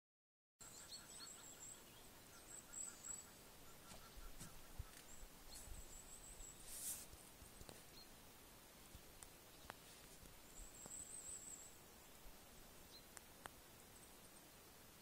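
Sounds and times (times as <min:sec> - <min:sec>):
faint high-pitched chirping: 0:00.6 - 0:08.2, 0:08.9 - 0:15.0.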